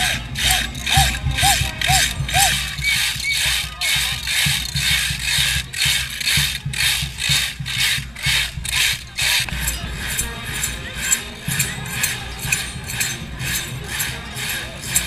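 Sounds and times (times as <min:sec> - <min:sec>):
rattles shaken rhythmically: 0:00.0 - 0:15.0.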